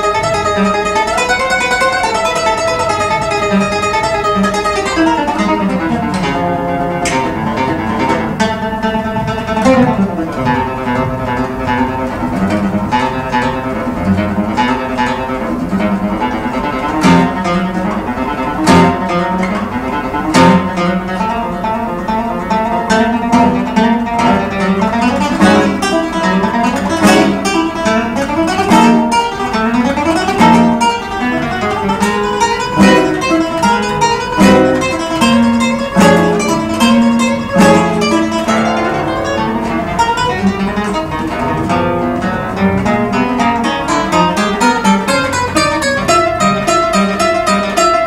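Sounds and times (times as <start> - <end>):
classical guitar playing fast: 0.0 - 48.0.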